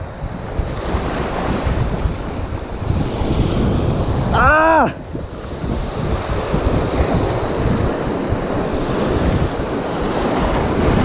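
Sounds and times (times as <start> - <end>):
surf breaking on rocky shore: 0.0 - 11.0
wind buffeting microphone: 0.0 - 11.0.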